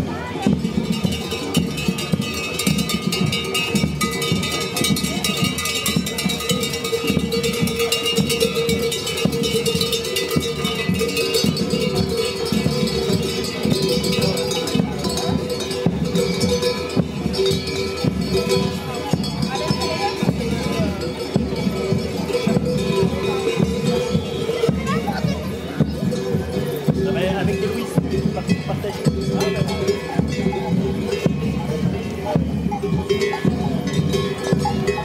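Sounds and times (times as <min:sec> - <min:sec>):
cowbells clanking: 0:00.0 - 0:35.0.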